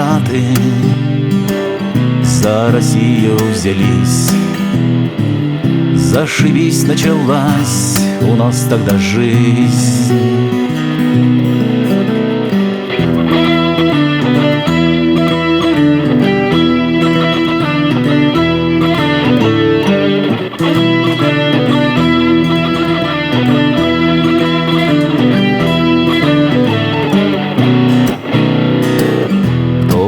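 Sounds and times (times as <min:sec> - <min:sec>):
guitar music with bass: 0:00.0 - 0:30.0.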